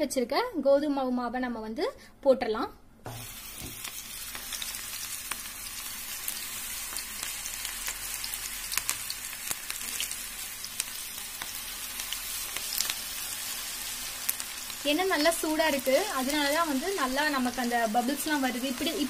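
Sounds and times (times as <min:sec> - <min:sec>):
dough deep-frying in oil: 0:03.2 - 0:19.0.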